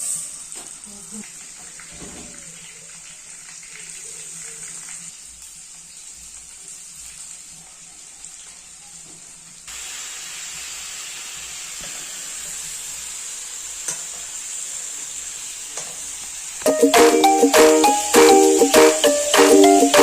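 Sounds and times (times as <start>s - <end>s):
chicken frying in hot oil: 0.0s - 16.7s.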